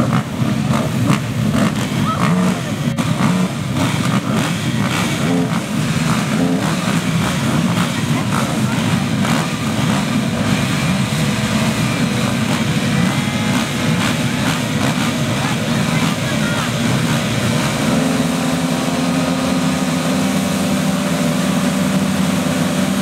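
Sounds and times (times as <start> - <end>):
quad engines roaring: 0.0 - 23.0.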